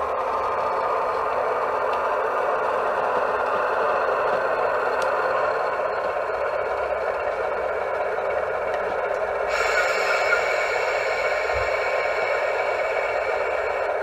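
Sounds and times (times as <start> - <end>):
diesel locomotive engine from small speaker: 0.0 - 14.0.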